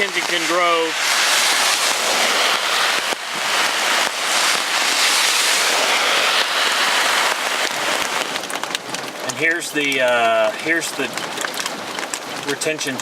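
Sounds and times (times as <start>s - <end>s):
hard rain hissing: 0.0s - 13.0s.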